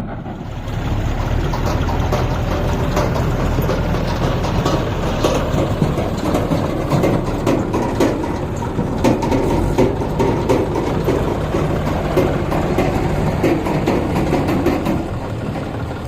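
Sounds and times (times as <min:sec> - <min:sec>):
heavy diesel engine running: 0:00.0 - 0:16.0
metallic clanks and knocks: 0:00.0 - 0:16.0.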